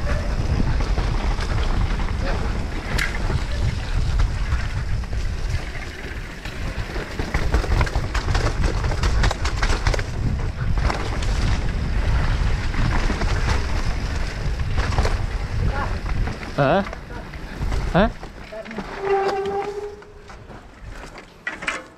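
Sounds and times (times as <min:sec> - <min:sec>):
wind buffeting microphone: 0:00.0 - 0:18.9
bike rattling over rough ground: 0:00.0 - 0:21.9.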